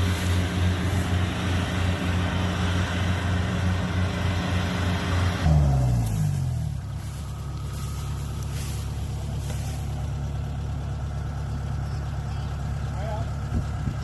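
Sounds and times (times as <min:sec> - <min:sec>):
combine harvester engine: 0:00.0 - 0:14.0.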